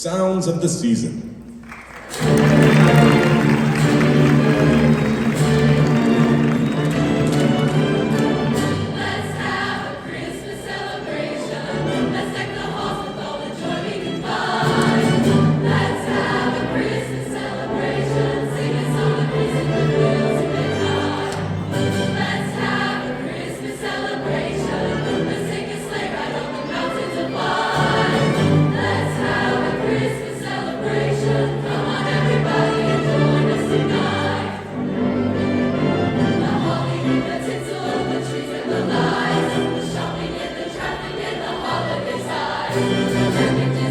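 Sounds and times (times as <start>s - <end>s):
choir singing: 1.2s - 43.9s.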